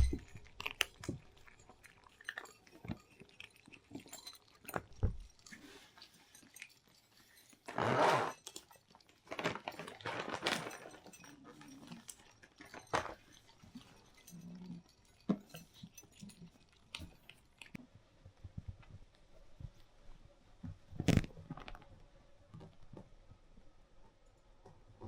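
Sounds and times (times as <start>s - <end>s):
cat chewing and crunching food: 0.0s - 25.0s.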